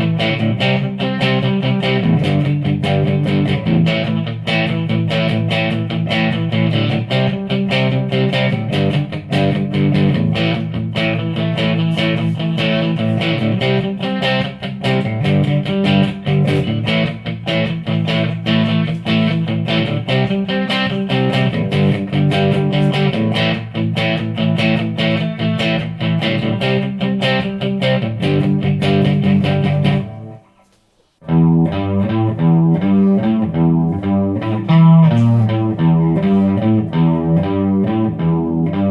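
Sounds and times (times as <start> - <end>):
electric guitar picked rhythm: 0.0 - 38.9.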